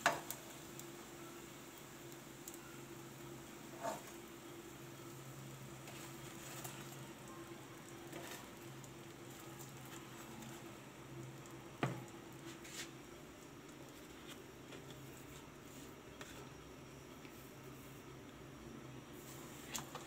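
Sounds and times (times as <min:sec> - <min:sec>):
oil crackling in a pan: 0:00.0 - 0:17.4.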